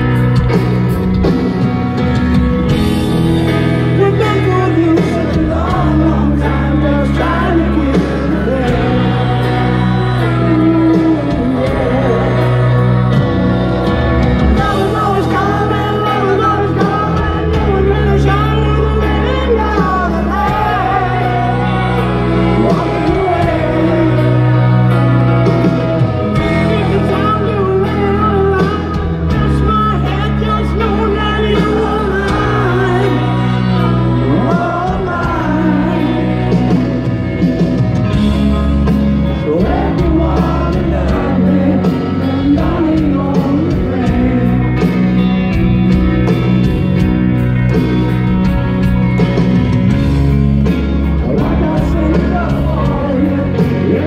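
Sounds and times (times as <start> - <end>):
piano: 0.0 - 54.0
rock band held chords: 0.0 - 54.0
male lead vocal: 2.6 - 47.0, 49.6 - 54.0.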